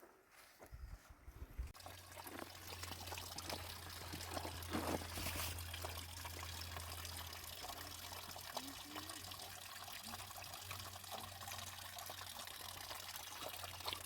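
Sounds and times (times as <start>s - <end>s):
water pouring and trickling: 1.7s - 14.0s.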